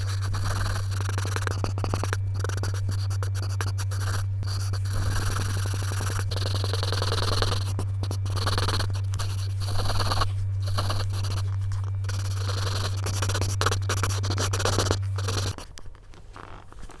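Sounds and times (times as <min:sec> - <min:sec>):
pencil scratching on paper: 0:00.0 - 0:15.8
steady low hum: 0:00.0 - 0:17.0.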